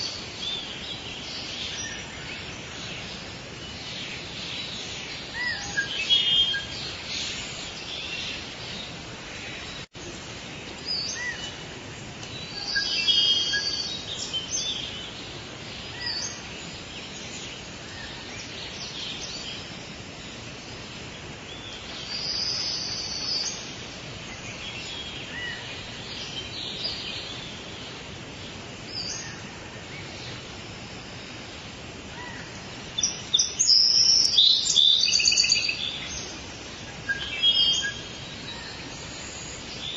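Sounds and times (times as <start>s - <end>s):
birds calling and chirping: 0.0s - 39.9s
steady background hiss: 0.0s - 39.9s.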